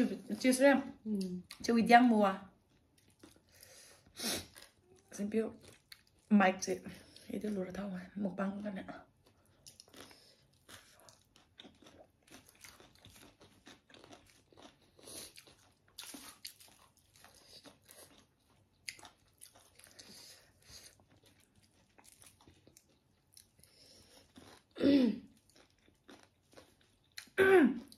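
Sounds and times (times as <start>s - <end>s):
crunching and chewing vegetables: 2.6s - 27.9s.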